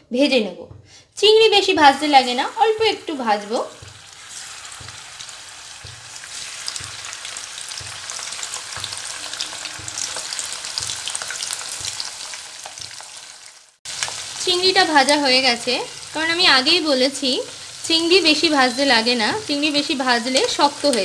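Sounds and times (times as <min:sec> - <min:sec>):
prawns sizzling in hot oil: 0:01.8 - 0:21.0.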